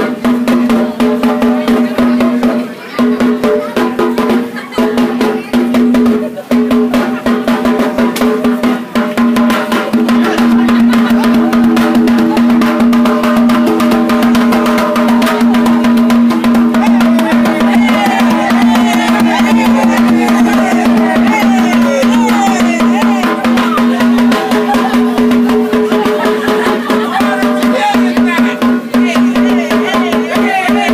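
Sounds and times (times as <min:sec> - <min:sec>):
crowd voices: 0:00.0 - 0:30.9
djembe hand drum: 0:00.0 - 0:30.9.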